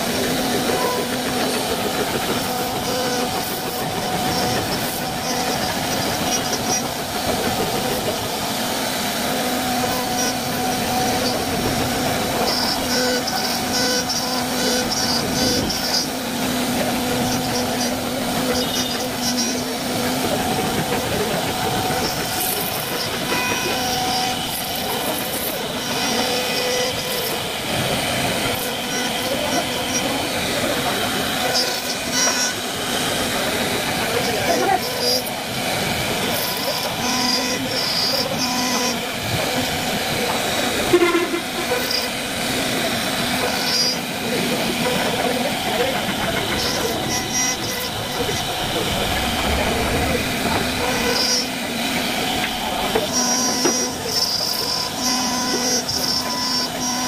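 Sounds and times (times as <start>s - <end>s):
high machine whine: 0.0s - 57.0s
router cutting wood: 0.0s - 57.0s.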